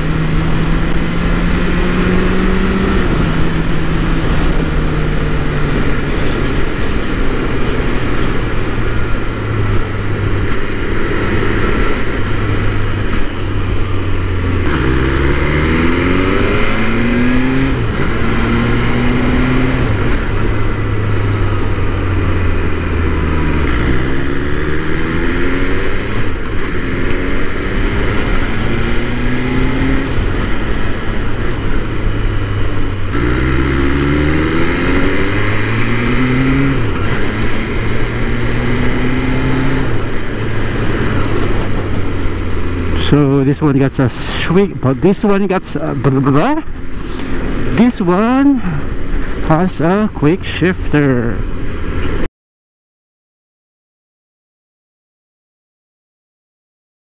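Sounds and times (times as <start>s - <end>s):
motorcycle engine accelerating: 0.0s - 52.3s.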